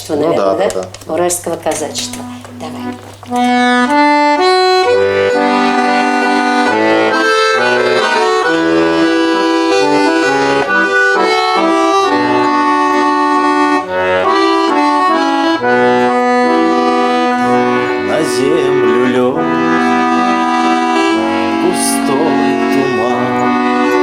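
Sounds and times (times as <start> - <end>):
accordion playing folk melody: 0.0 - 24.0.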